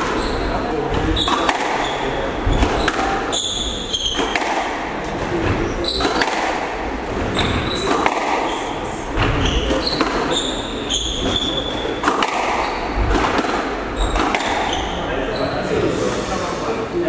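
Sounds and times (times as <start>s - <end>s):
shoes squeaking on hardwood: 0.0s - 6.4s, 7.1s - 15.6s
squash ball hitting rackets and walls: 0.0s - 15.2s.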